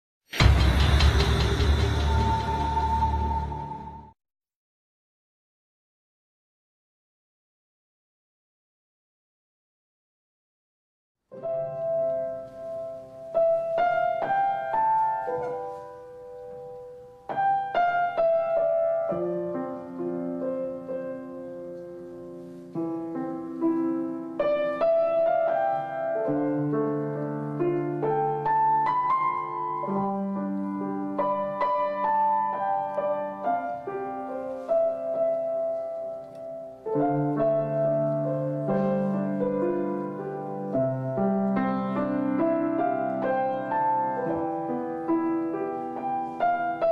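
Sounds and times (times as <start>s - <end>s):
piano music: 0.3s - 4.2s, 11.3s - 46.9s.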